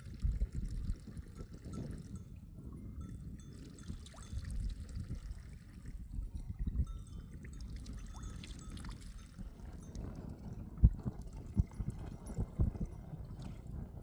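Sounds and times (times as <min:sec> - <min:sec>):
water pouring and trickling: 0:00.0 - 0:14.0.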